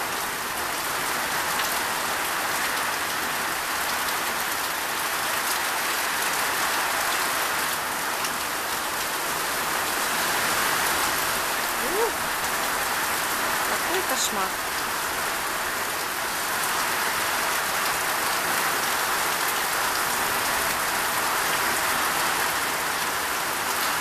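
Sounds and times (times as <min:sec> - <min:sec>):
heavy rain downpour: 0:00.0 - 0:24.0.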